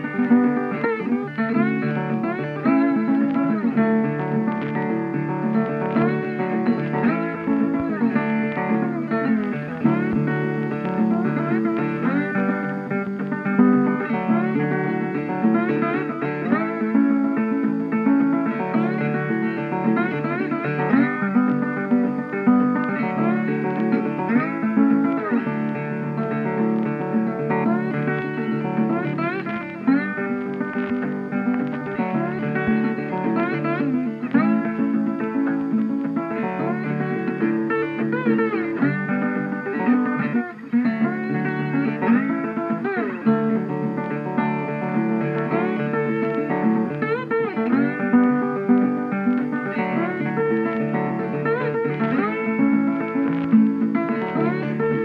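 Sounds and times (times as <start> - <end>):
plucked guitar background music: 0.0 - 55.0.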